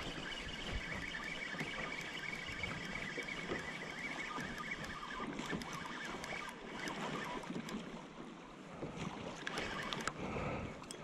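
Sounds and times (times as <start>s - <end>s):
faint ticks and splashes: 0.0s - 11.0s
water lapping against kayak hull: 0.0s - 11.0s.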